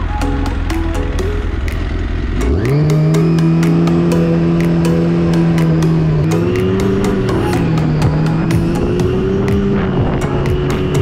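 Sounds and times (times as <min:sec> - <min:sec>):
snowmobile engine idling and revving: 0:00.0 - 0:11.0.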